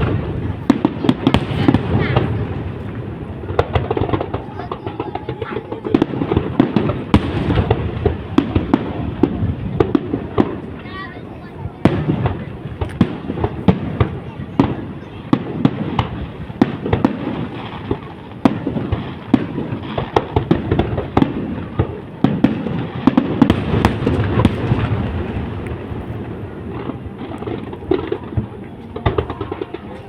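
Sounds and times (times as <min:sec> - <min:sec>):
fireworks booming and crackling: 0:00.0 - 0:30.0.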